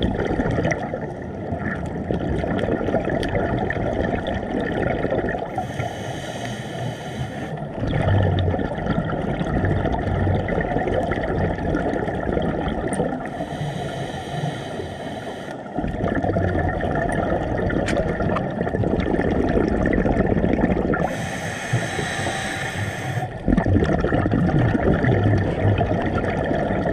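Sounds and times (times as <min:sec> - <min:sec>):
exhaled bubbles underwater: 0:00.0 - 0:06.4, 0:07.0 - 0:26.9.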